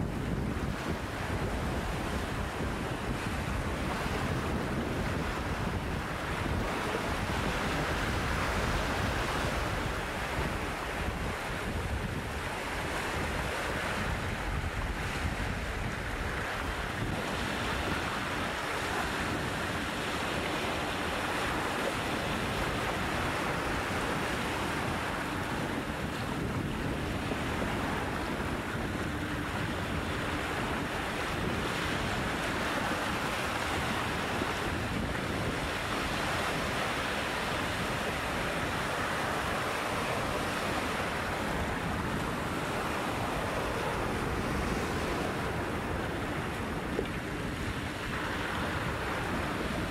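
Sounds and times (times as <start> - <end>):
waves washing over pebbles: 0.0 - 49.9
wind buffeting microphone: 0.0 - 49.9.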